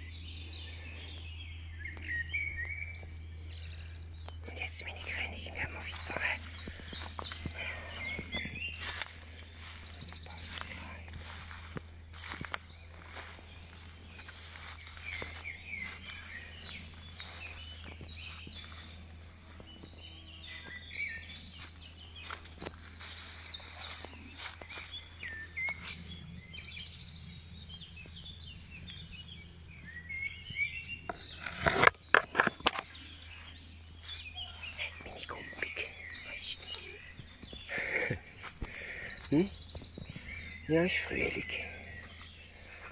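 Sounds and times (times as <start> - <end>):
low steady hum: 0.0 - 42.9
songbirds singing: 0.0 - 42.9.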